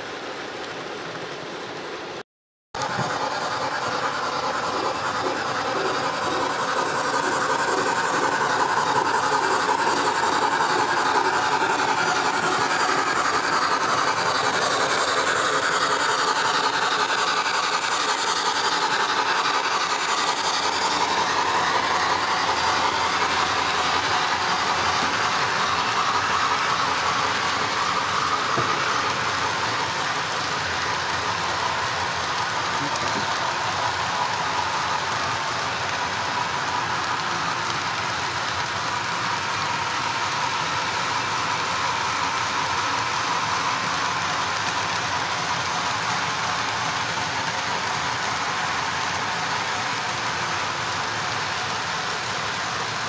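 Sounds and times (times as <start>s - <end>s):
model train wheels on rails: 0.0s - 2.2s, 2.8s - 53.0s.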